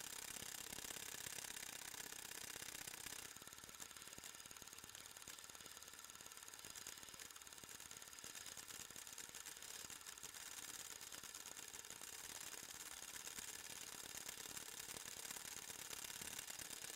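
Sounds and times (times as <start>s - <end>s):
film projector clattering: 0.0s - 16.9s.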